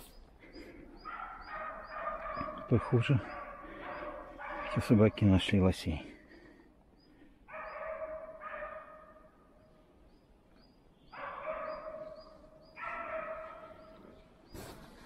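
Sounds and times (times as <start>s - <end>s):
dogs barking faintly: 0.0s - 10.0s, 10.8s - 15.0s.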